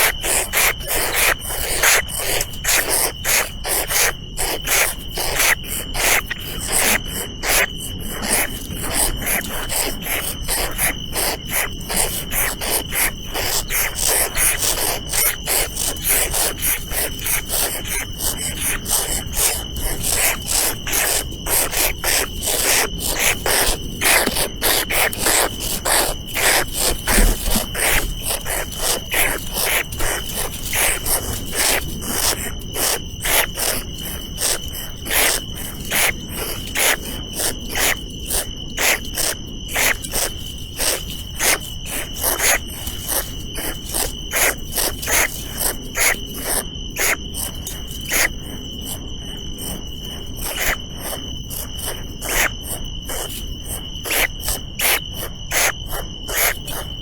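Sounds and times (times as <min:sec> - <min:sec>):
insect rasping pulses: 0:00.0 - 0:57.0
insects high-pitched drone: 0:00.0 - 0:57.0.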